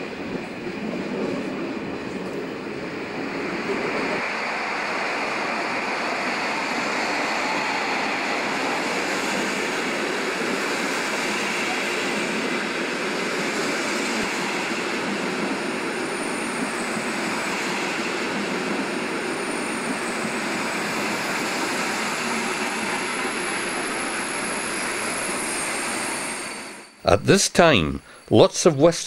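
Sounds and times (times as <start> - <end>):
train wheels rumbling on rails: 0.0 - 26.8.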